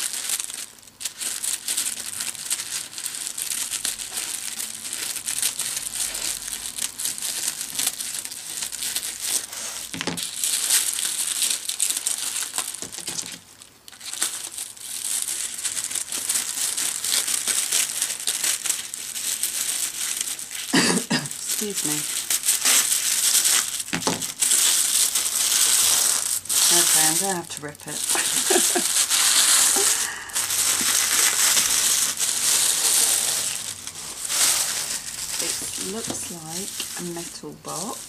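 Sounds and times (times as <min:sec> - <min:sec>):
plastic wrapping crinkling: 0:00.0 - 0:38.0.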